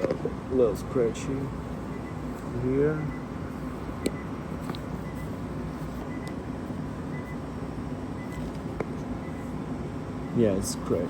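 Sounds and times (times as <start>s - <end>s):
steady low background noise: 0.0s - 11.0s.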